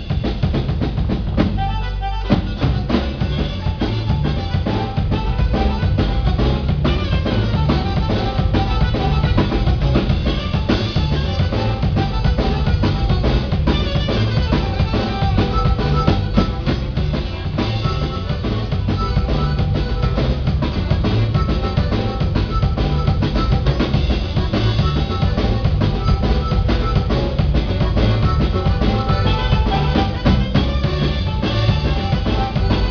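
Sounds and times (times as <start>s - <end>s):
drum kit: 0.0s - 32.9s
live band playing: 0.0s - 32.9s.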